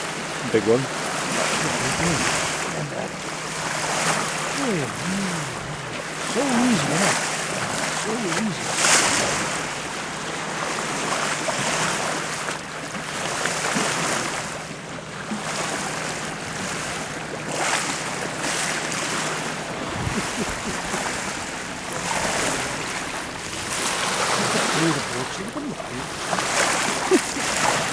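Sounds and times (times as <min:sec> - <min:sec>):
water splashing along boat hull: 0:00.0 - 0:27.9.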